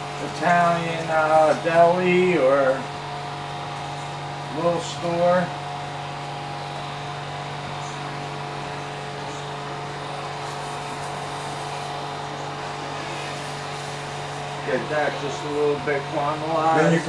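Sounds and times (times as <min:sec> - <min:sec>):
range hood fan humming: 0:00.0 - 0:17.0.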